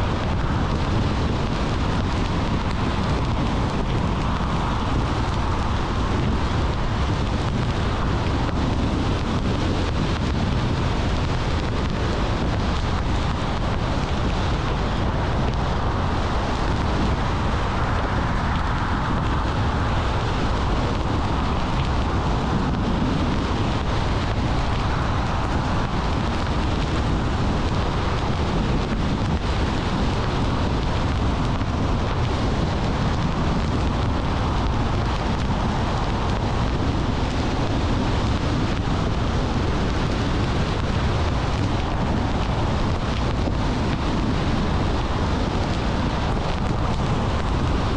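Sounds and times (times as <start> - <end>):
wind noise: 0.0 - 47.9.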